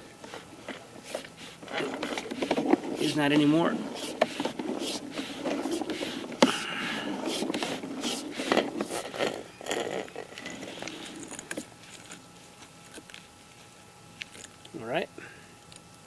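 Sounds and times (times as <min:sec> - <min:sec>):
cable scraping and clicking: 0:00.0 - 0:14.8.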